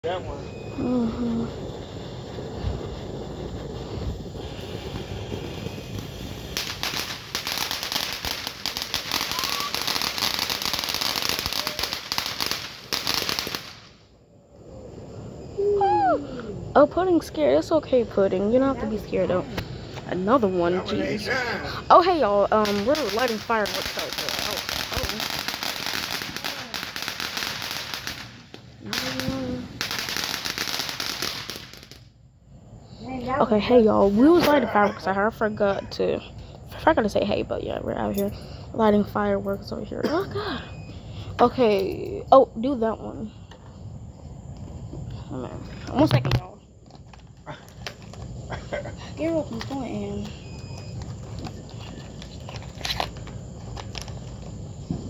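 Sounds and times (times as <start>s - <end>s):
fireworks fizzing: 0.0s - 46.5s
fireworks crackling pops: 1.0s - 21.1s, 21.9s - 32.2s, 32.9s - 39.7s, 40.9s - 55.0s.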